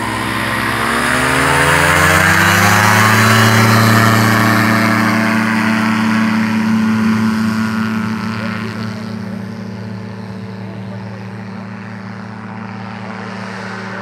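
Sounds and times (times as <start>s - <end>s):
ultralight trike engine revving: 0.0s - 14.0s.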